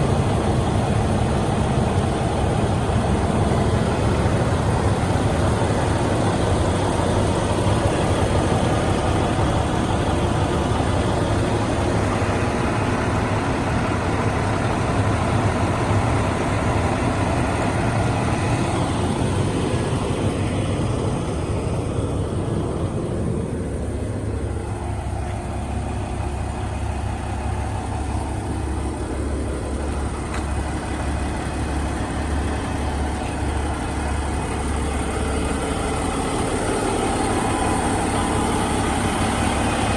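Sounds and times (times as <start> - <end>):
engine hiss: 0.0 - 39.9
truck diesel engine idling: 0.0 - 39.9.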